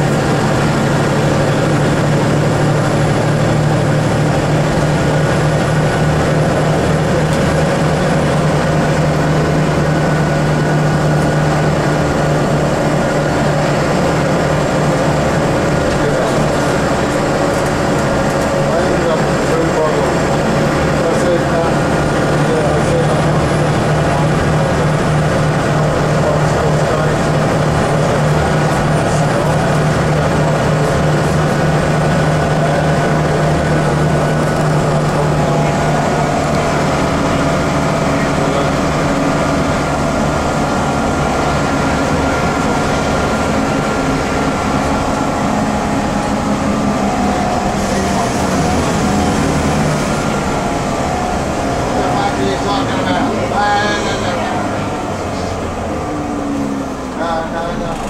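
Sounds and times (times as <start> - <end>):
bus cabin noise: 0.0 - 58.0
bus engine humming: 0.0 - 58.0.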